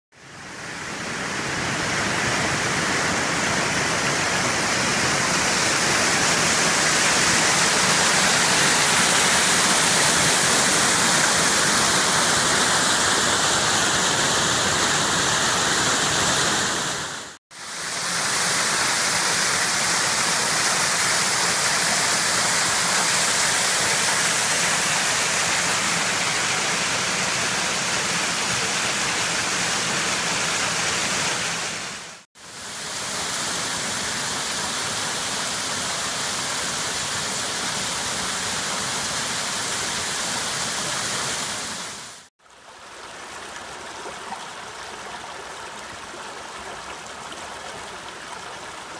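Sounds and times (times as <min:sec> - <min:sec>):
water rushing over rocks: 0:00.6 - 0:48.9.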